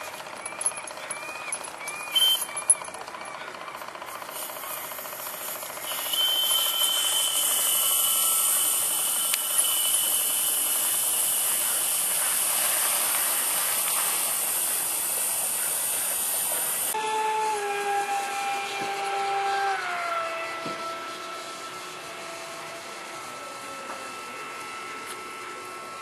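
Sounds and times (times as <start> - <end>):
thin high tone: 0.0 - 26.0
steam hissing: 4.0 - 25.7.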